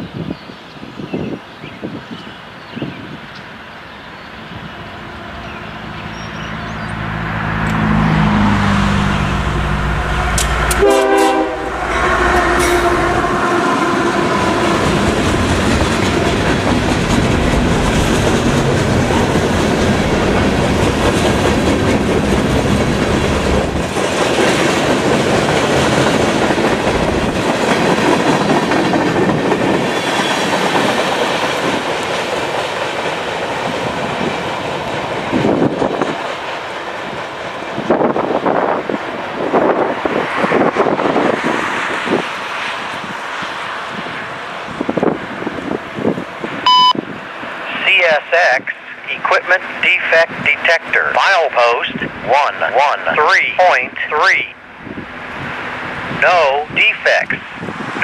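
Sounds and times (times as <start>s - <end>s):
diesel locomotive engine: 3.1s - 58.0s
freight cars rolling on rails: 4.4s - 51.2s.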